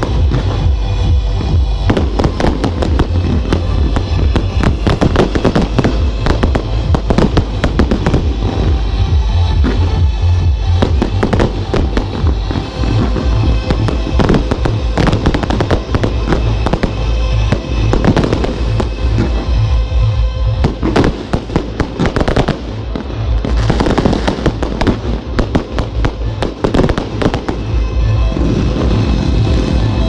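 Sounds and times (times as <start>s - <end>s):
fireworks bursting and crackling: 0.0s - 30.0s
music playing: 0.0s - 30.0s.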